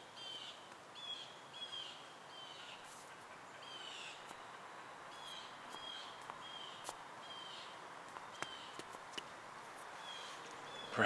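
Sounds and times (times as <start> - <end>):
bird chirping: 0.0 - 8.9, 9.8 - 11.0
faint outdoor hiss: 0.0 - 11.0.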